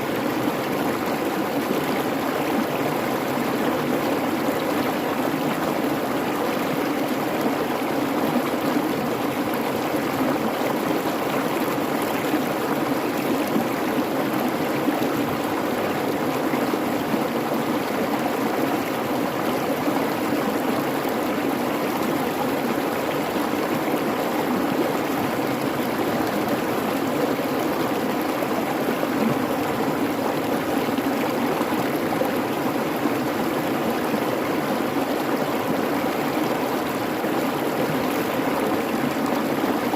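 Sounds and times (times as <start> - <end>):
running water in creek: 0.0 - 39.9.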